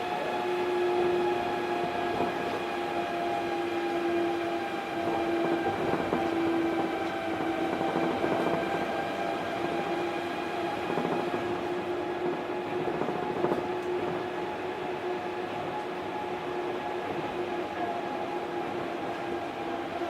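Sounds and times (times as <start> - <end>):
train drive whine: 0.0 - 20.0
train rumbling on track: 0.0 - 20.0.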